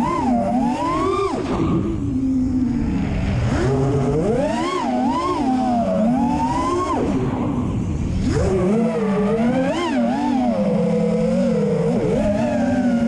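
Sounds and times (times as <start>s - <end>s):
quadcopter propellers whining: 0.0s - 13.0s.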